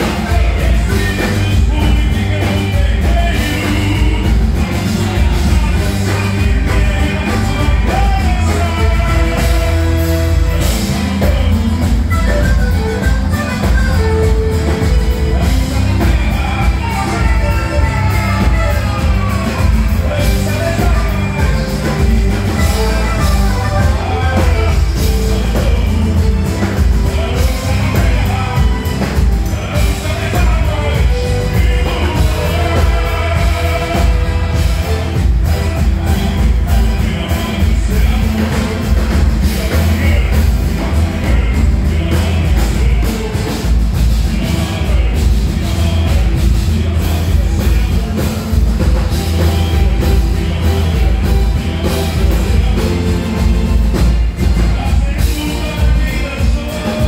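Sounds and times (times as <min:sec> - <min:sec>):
driving percussion: 0:00.0 - 0:57.0
live band playing: 0:00.0 - 0:57.0
male lead singer: 0:00.0 - 0:57.0.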